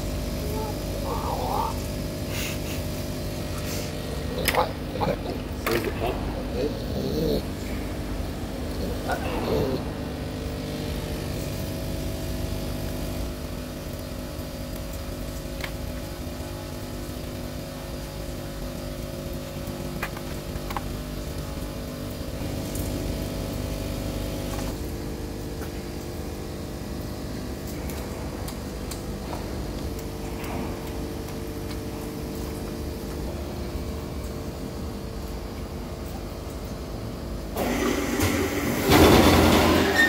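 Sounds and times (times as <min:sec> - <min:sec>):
workshop machinery humming: 0:00.0 - 0:40.0.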